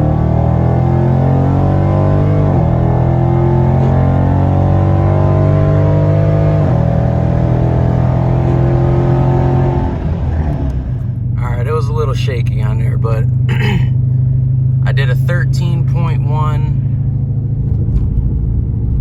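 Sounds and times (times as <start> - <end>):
car engine at full throttle: 0.0 - 19.0.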